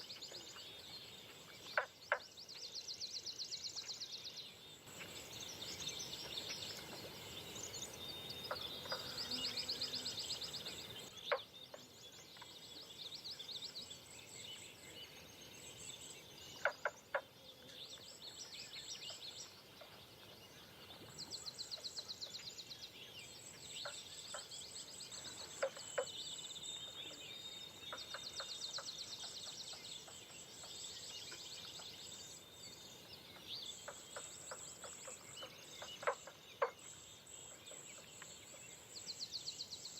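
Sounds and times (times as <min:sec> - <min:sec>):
birds singing with trills: 0:00.0 - 0:39.9.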